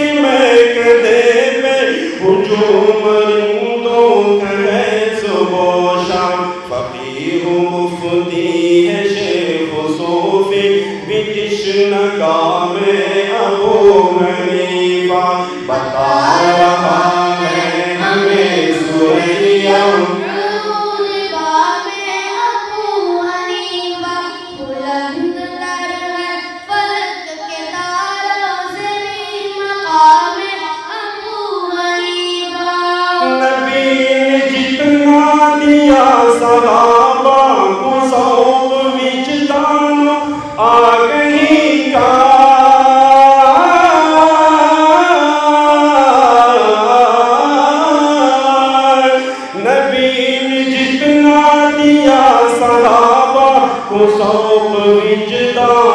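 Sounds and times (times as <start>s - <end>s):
person singing melodic chant: 0.0s - 55.9s.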